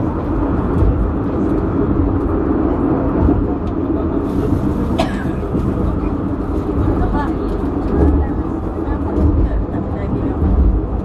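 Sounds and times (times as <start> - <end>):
funicular car rumbling on rails: 0.0 - 11.0.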